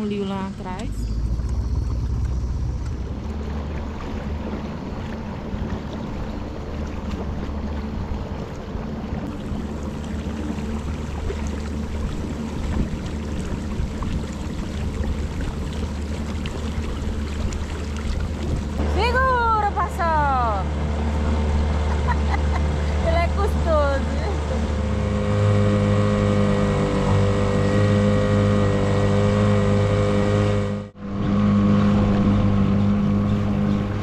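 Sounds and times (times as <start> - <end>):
outboard motor running: 0.0 - 34.0
water rushing past hull: 0.0 - 34.0.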